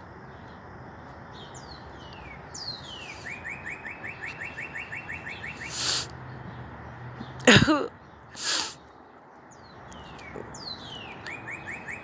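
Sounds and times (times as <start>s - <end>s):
small songbird singing: 0.0s - 12.0s.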